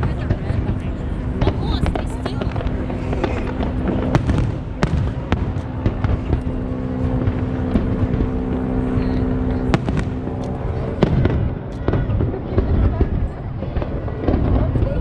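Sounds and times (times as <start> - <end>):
firework booms: 0.0 - 15.0
low droning tone: 0.0 - 15.0
sharp firework cracks: 0.0 - 15.0.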